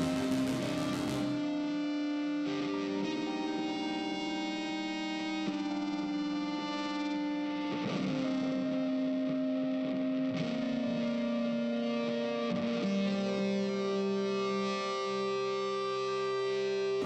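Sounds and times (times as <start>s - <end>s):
effects-laden guitar notes: 0.0s - 17.0s.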